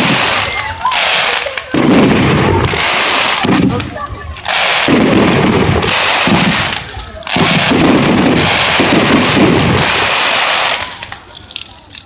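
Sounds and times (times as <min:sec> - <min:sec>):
fireworks bursts and crackling: 0:00.0 - 0:12.0.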